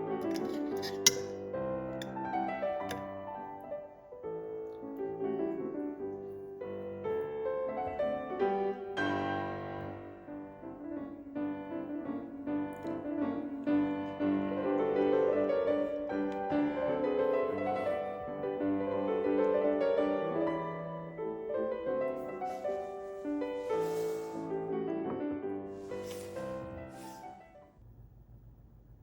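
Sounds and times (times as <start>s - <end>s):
slow piano melody: 0.0s - 0.3s, 1.1s - 27.8s.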